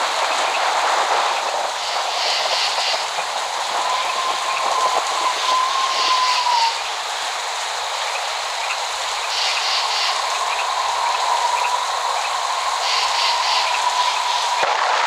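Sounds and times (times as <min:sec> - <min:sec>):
insect chirping: 0:00.0 - 0:14.6
rain falling: 0:00.0 - 0:15.0.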